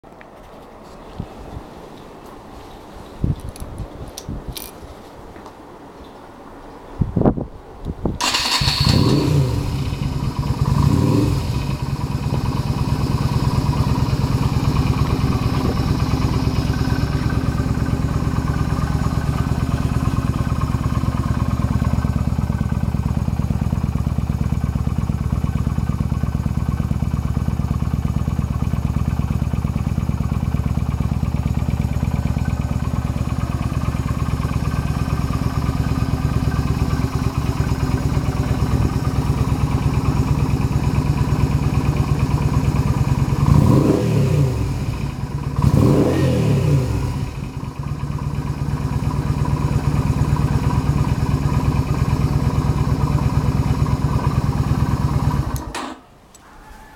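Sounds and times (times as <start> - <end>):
motorcycle engine revving and idling: 8.2 - 56.0.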